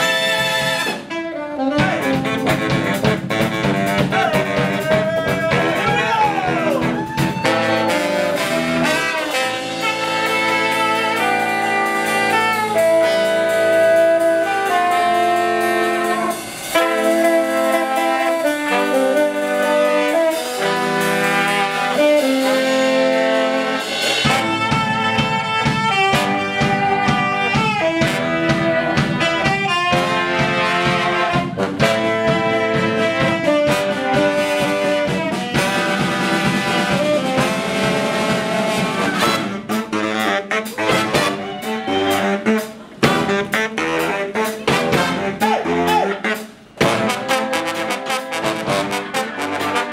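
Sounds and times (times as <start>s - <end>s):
brass band playing: 0.0s - 49.9s
drum kit steady beat: 0.0s - 49.9s.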